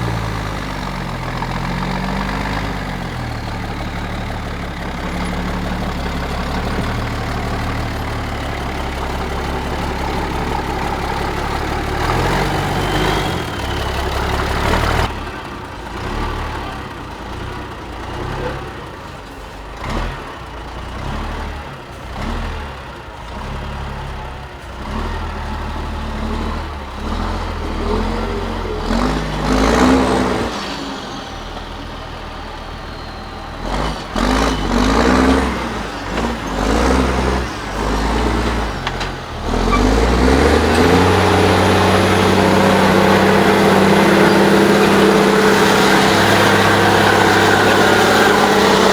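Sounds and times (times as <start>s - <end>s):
diesel truck engines revving: 0.0s - 48.9s.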